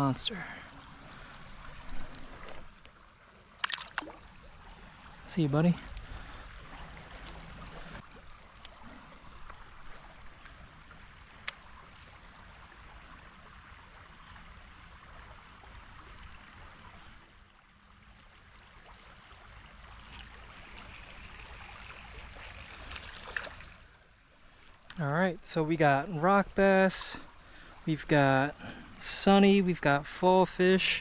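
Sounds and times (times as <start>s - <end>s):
creek water running: 0.0s - 31.0s.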